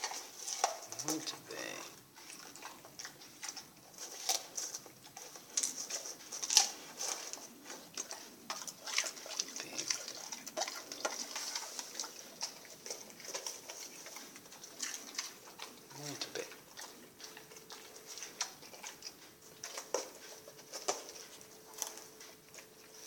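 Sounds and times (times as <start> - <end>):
dog chewing and smacking: 0.0 - 23.0.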